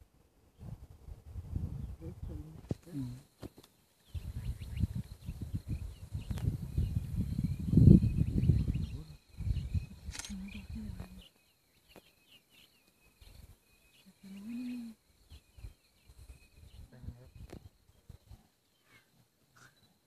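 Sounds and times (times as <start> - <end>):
small birds chirping: 1.7 - 20.0.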